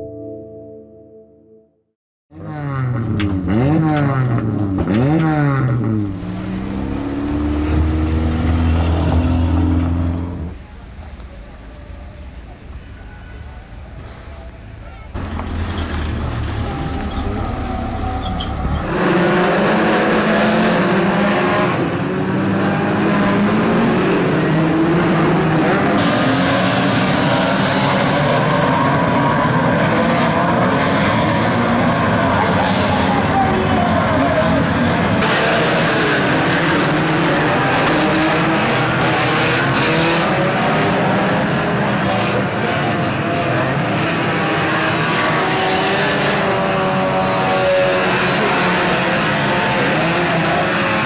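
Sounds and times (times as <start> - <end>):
racing car engines running hard: 2.4 - 51.0.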